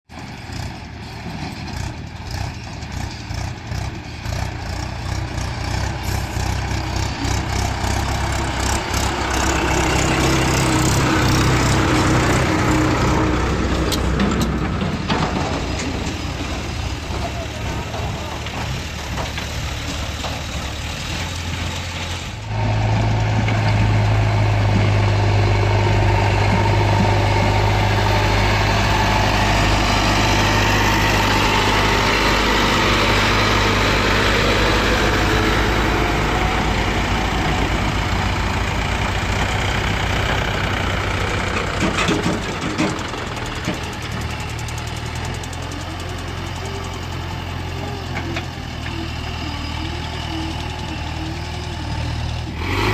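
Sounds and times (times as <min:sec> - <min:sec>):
heavy diesel engine running: 0:00.1 - 0:52.9.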